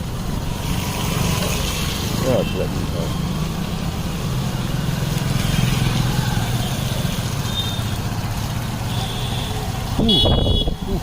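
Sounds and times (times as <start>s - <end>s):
traffic engines humming: 0.0s - 11.0s.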